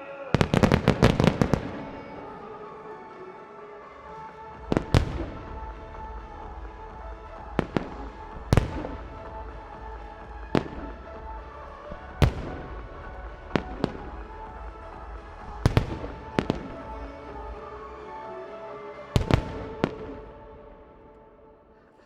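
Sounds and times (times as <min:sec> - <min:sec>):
music over loudspeakers: 0:00.0 - 0:22.0.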